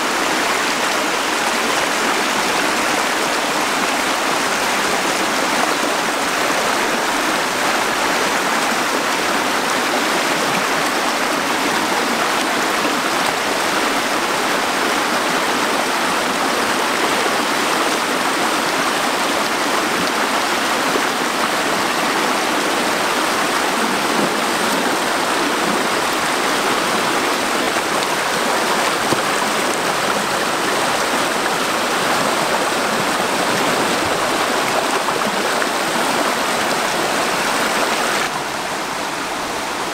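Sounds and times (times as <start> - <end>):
stream rushing over rapids: 0.0 - 39.9.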